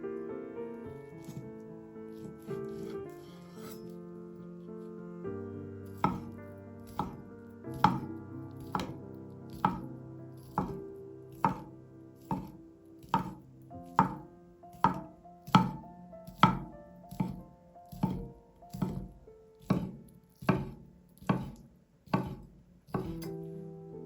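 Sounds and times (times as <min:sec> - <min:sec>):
background music: 0:00.0 - 0:21.5, 0:22.1 - 0:24.0
knife chopping on cutting board: 0:01.2 - 0:01.5, 0:02.1 - 0:04.0, 0:05.9 - 0:23.4.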